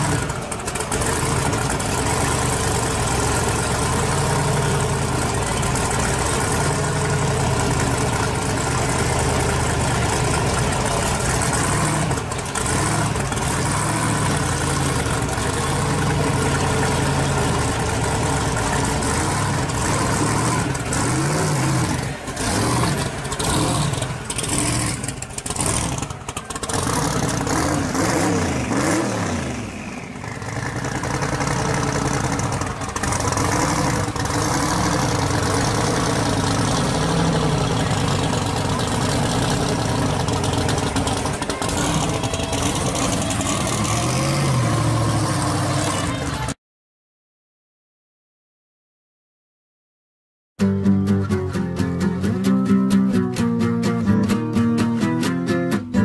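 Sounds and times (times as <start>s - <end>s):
car engine idling and revving: 0.0s - 46.6s.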